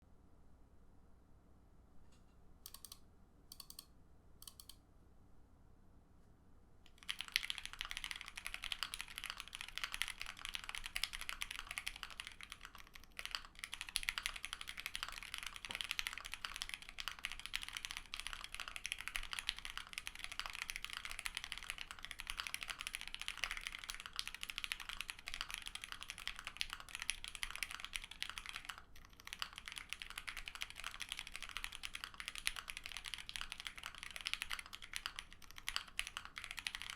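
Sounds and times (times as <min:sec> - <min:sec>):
typing on mechanical keyboard: 0:02.7 - 0:03.8, 0:04.4 - 0:04.8, 0:06.9 - 0:36.9.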